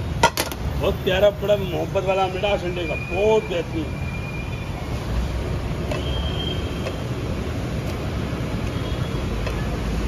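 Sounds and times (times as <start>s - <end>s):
street background rumble and hiss: 0.0s - 10.0s.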